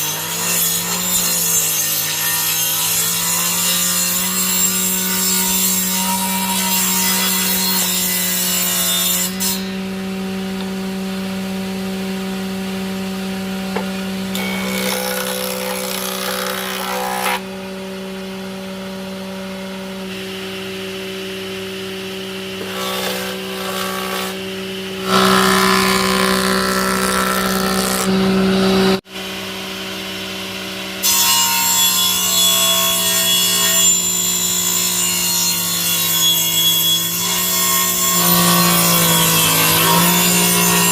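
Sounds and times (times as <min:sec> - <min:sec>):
power tool sawing wood: 0:00.0 - 0:12.0, 0:12.9 - 0:17.7, 0:22.2 - 0:29.1, 0:31.0 - 0:40.9.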